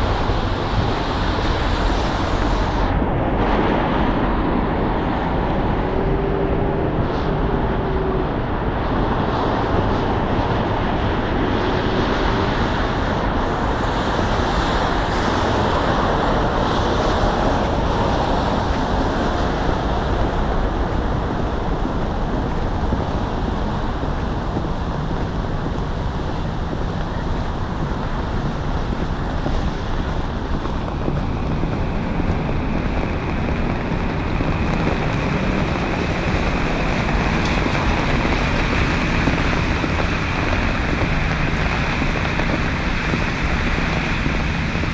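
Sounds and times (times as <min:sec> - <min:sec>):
city street traffic: 0:00.0 - 0:44.9.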